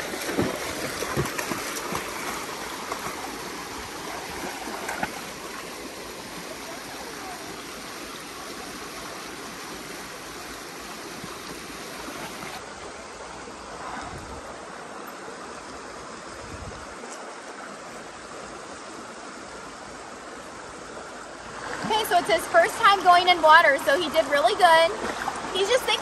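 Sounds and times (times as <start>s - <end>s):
creek water running: 0.0s - 26.0s.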